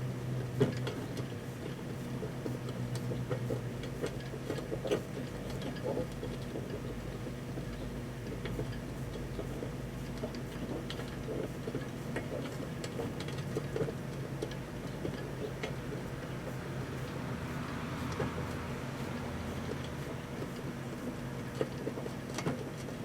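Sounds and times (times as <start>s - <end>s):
microwave oven humming: 0.0s - 23.0s.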